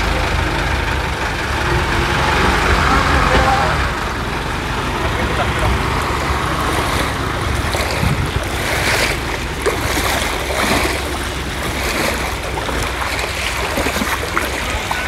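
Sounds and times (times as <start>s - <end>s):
floodwater rushing: 0.0s - 15.0s
wind buffeting microphone: 2.8s - 15.0s.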